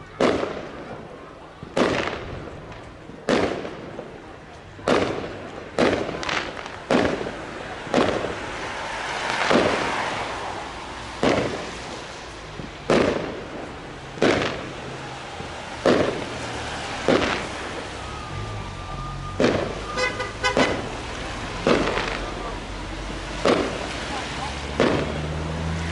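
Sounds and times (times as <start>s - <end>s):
fireworks crackling hiss: 0.0s - 25.6s
fireworks bursting with bangs: 0.0s - 25.7s.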